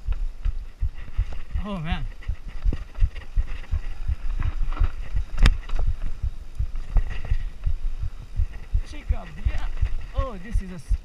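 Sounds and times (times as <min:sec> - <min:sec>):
mountain bike rattling downhill: 0:00.4 - 0:10.9.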